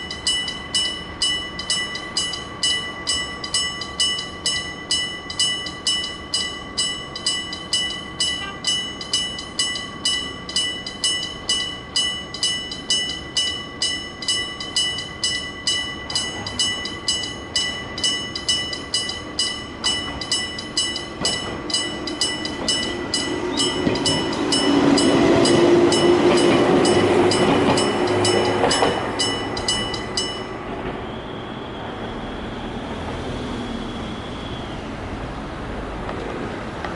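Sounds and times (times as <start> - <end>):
level crossing bell ringing: 0.0 - 30.7
electric train rumbling: 0.0 - 36.9.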